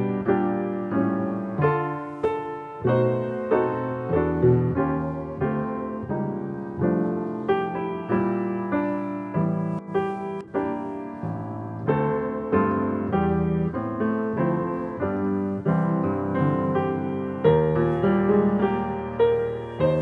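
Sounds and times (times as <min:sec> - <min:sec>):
slow solo piano piece: 0:00.0 - 0:20.0.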